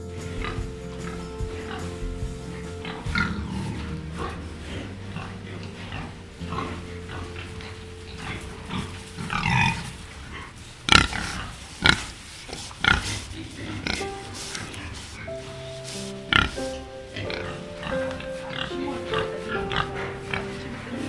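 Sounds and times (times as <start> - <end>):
background music: 0.0 - 10.2, 13.7 - 21.0.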